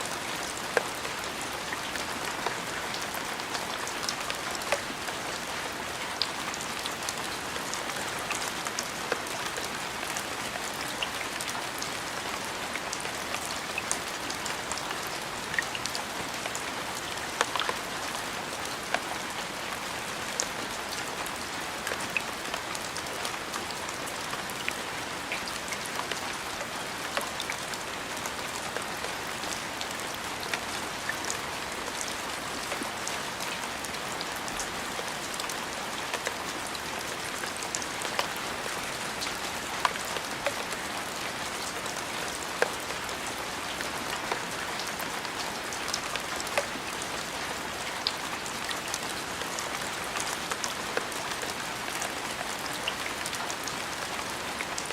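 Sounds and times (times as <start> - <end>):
raindrops ticking close by: 0.0 - 54.9
steady rain falling: 0.0 - 54.9.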